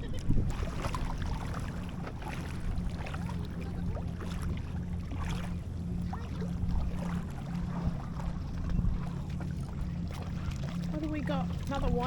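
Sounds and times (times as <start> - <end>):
water splashes: 0.0 - 12.0
wind buffeting microphone: 0.0 - 12.0.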